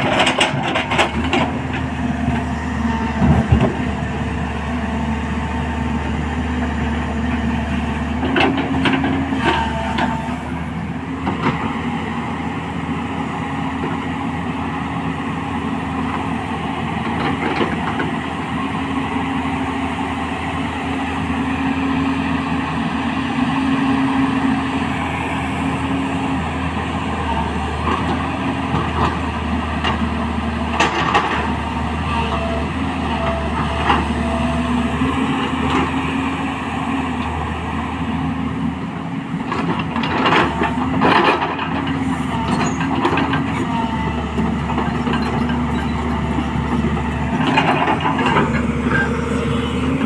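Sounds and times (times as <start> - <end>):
excavator diesel engine humming: 0.0 - 50.0.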